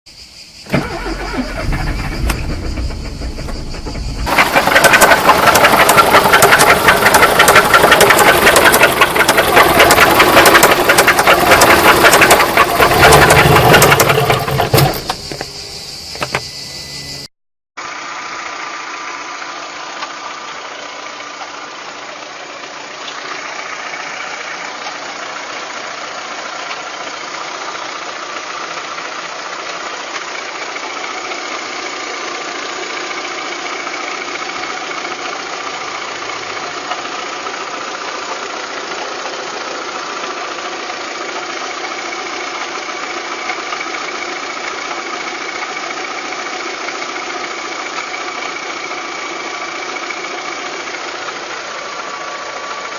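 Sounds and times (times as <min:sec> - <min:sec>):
abnormal mechanical engine noise: 0:00.1 - 0:52.9
car engine running: 0:00.6 - 0:17.2, 0:17.8 - 0:52.9.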